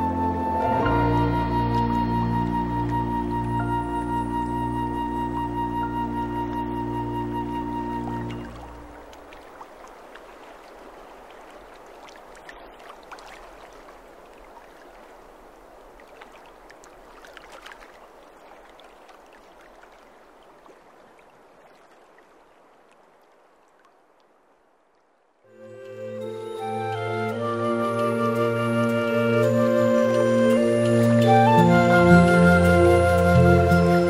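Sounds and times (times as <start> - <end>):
stream water rushing: 0.0 - 34.0.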